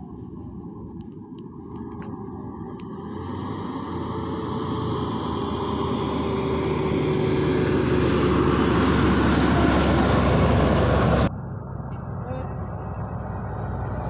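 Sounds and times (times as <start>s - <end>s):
heavy truck engine and tyre rumble: 0.0s - 14.0s.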